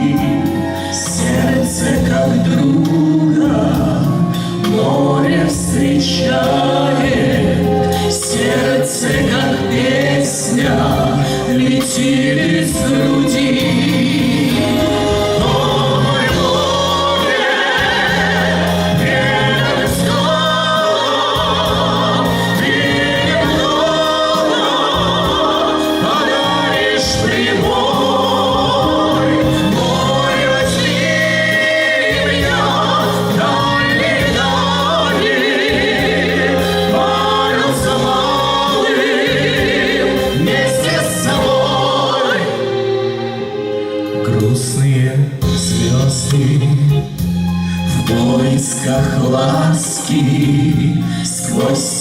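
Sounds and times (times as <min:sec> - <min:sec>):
steady bass notes: 0:00.0 - 0:51.8.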